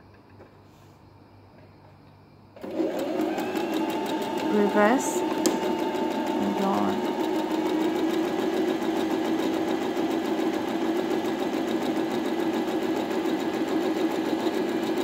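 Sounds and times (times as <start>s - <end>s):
sewing machine running: 2.6s - 15.0s.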